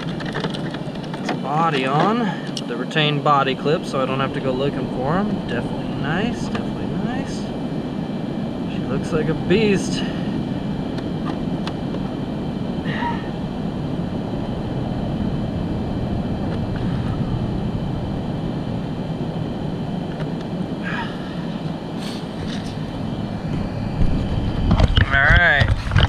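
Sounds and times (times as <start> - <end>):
low rumbling noise: 0.0 - 26.0.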